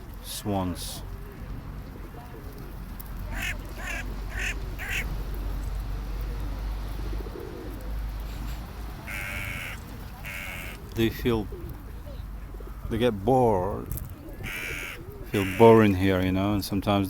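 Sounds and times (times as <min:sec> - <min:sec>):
waterbirds calling: 0:00.0 - 0:17.0.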